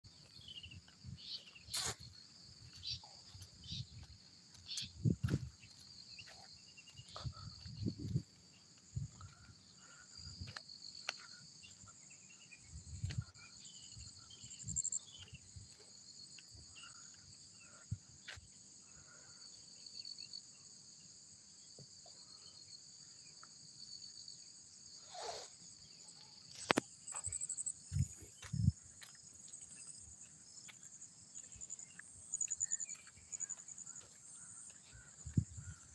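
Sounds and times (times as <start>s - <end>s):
insect chorus chirring: 0.1s - 35.9s.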